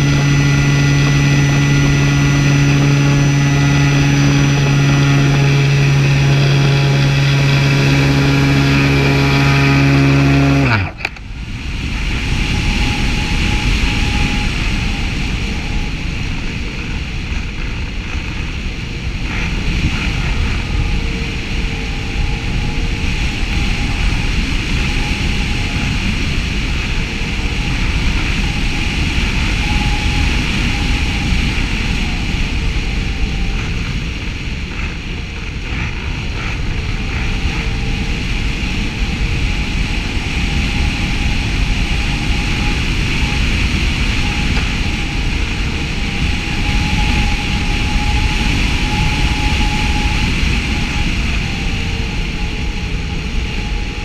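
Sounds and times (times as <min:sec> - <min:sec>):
propeller motor running: 0:00.0 - 0:54.0.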